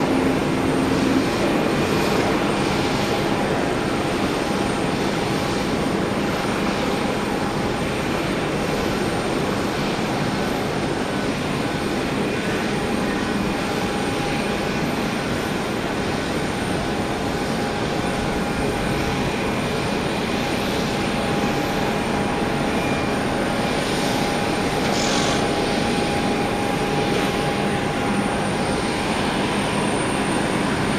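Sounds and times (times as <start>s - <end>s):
jet engines running: 0.0s - 30.9s.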